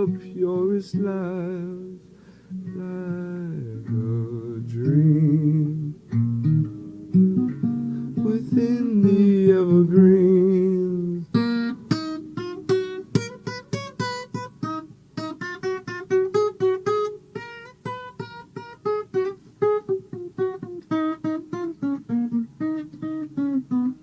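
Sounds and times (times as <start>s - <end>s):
acoustic guitar picking: 0.0s - 24.0s.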